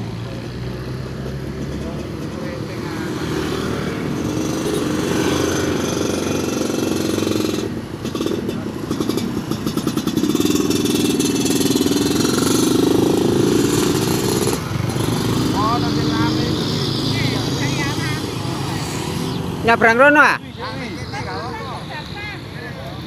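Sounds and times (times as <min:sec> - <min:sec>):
motorbike passing by: 0:00.0 - 0:23.0
scooter engine puttering: 0:00.2 - 0:20.3.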